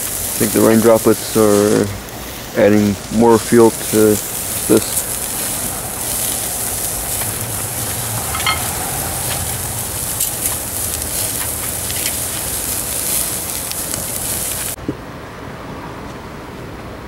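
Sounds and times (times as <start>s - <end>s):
burgers sizzling on a grill: 0.0s - 14.8s.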